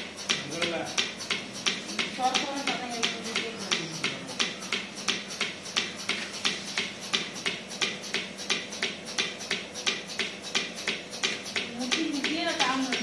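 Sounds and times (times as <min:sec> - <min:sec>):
milking pulsator hissing clicks: 0:00.0 - 0:13.0
vacuum pump hum: 0:00.0 - 0:13.0.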